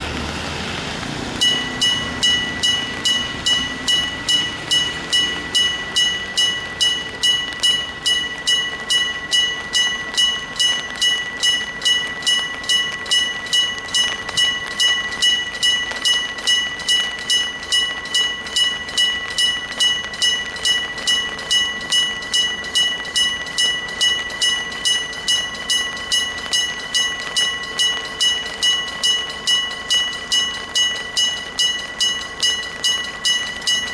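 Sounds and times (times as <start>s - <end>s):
level-crossing warning bell ringing: 1.4s - 33.9s.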